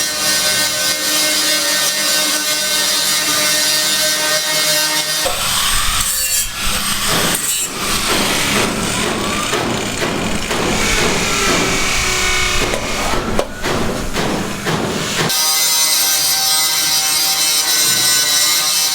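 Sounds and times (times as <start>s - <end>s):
saw grating: 0.0s - 18.9s.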